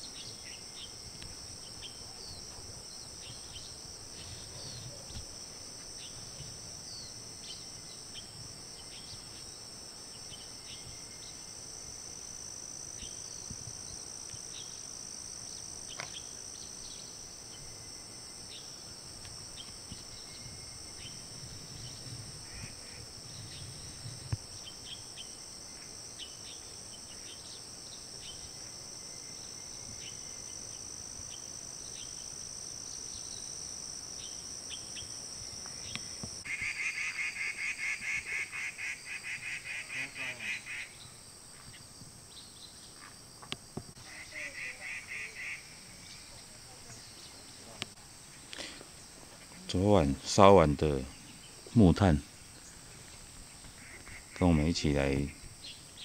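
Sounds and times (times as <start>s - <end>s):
crickets trilling: 0.0s - 56.0s
high insect chirps: 0.0s - 56.0s.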